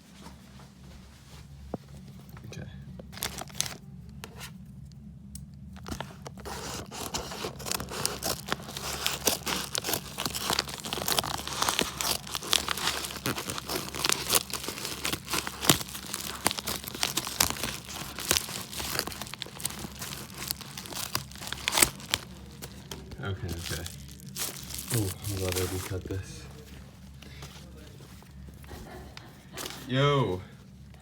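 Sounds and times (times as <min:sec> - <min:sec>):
packaging crinkling and tearing: 0:03.0 - 0:04.5, 0:05.7 - 0:31.0.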